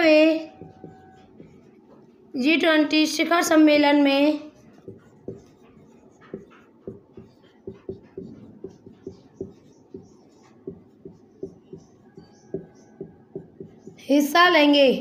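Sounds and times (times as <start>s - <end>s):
marker writing on whiteboard: 0.0s - 14.8s.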